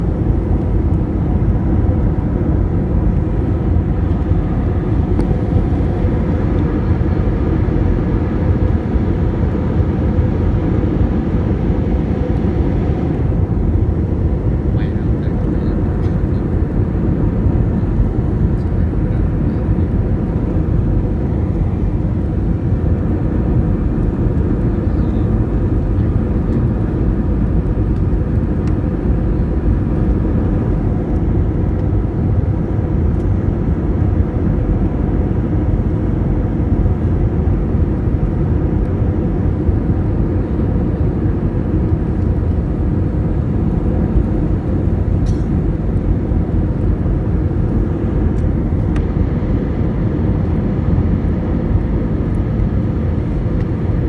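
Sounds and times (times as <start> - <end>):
jet airliner cabin noise: 0.0 - 54.0.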